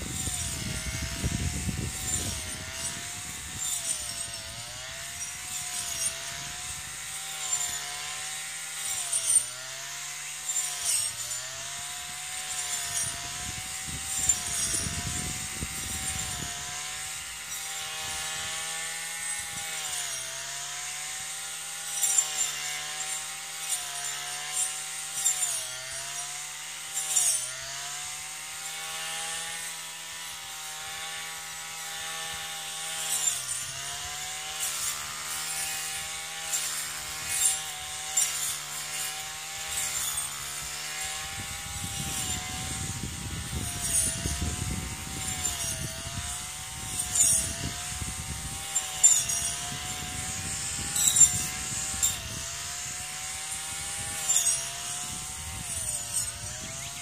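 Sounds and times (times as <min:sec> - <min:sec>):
brush cutter engine running: 0:00.0 - 0:57.0.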